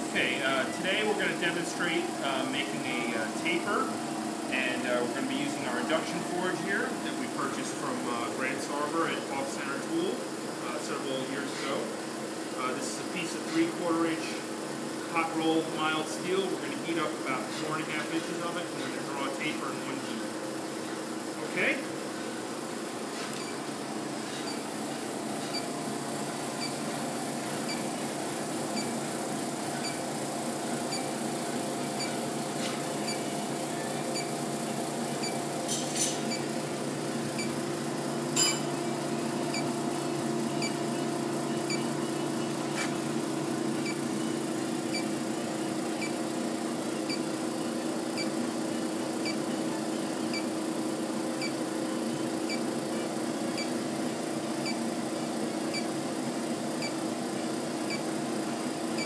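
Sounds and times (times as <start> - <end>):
induction heater humming: 0.0 - 59.0.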